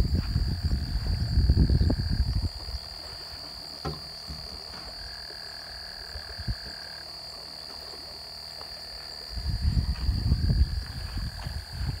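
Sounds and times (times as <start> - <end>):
frogs and insects drone: 0.0 - 12.0.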